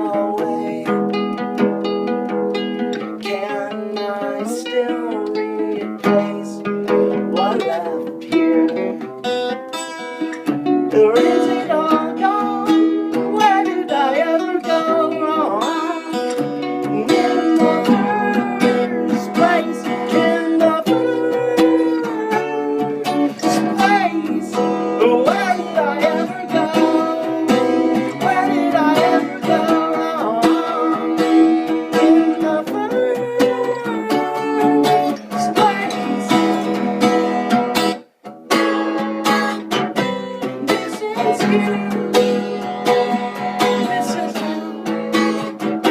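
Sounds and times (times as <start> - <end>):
acoustic guitar music: 0.0 - 45.9.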